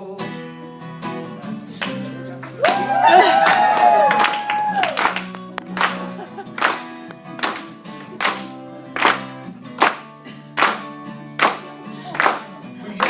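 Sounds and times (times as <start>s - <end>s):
clap beat: 1.8s - 13.0s.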